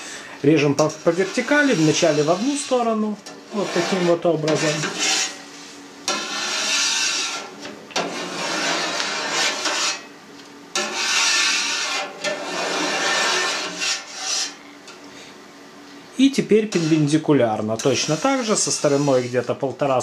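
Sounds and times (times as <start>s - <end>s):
knife scraping metal pan: 0.6s - 10.1s, 10.7s - 14.6s, 16.5s - 19.5s.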